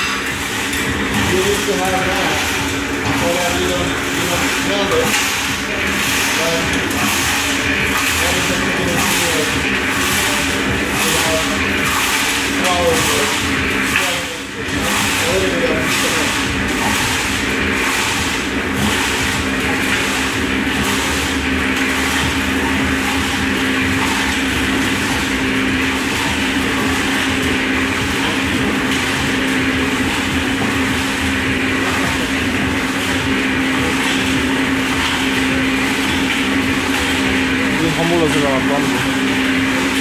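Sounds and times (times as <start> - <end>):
concrete mixer motor humming: 0.0 - 40.0
dry mix tumbling in drum: 0.0 - 40.0.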